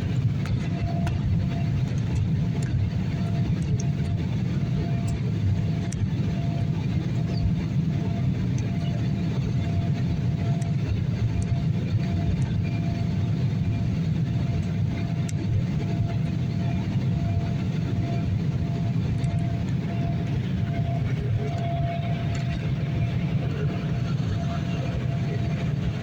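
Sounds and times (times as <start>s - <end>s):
aircraft cabin engine rumble: 0.0s - 26.0s.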